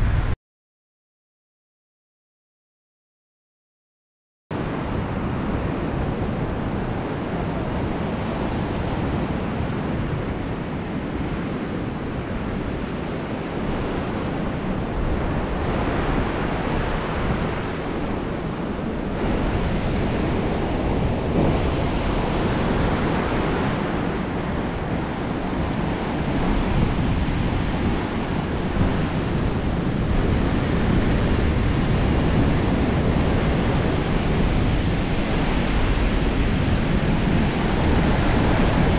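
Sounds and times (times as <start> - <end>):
wind rumbling on microphone: 0.0 - 0.4, 4.5 - 38.9
surf breaking on beach: 4.6 - 38.9.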